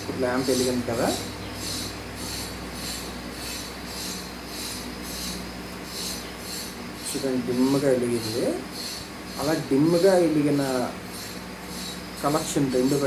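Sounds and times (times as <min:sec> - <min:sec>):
pulsing soft hiss: 0:00.0 - 0:13.0
steady low hum: 0:00.0 - 0:13.0.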